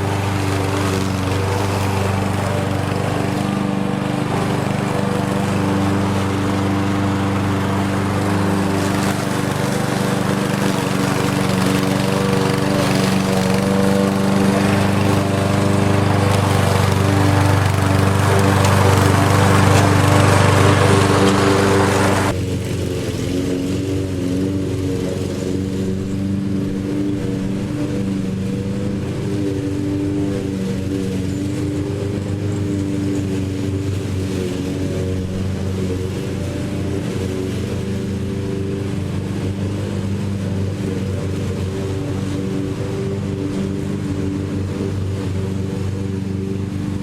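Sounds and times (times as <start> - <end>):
lawn mower engine running: 0.0 - 47.0.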